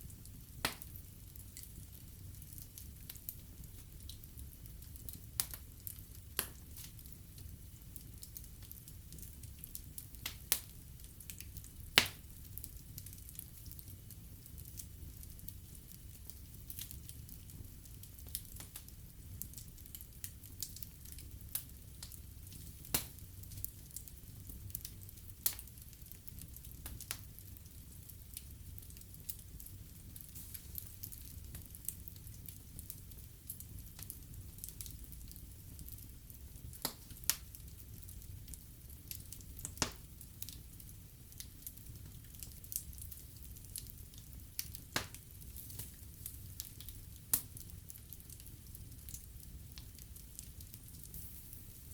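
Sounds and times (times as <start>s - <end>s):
logs crackling and popping: 0.1s - 51.9s.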